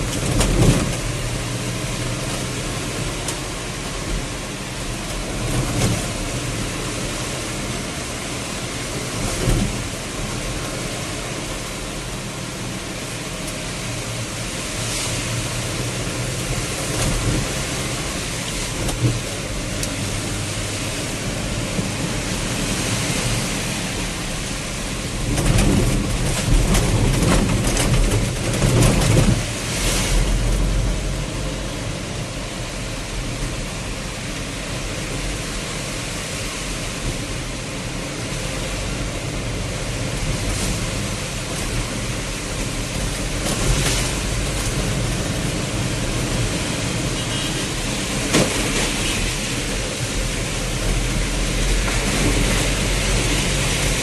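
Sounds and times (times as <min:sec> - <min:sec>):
heavy rain: 0:00.0 - 0:54.0
vehicle driving: 0:00.0 - 0:54.0.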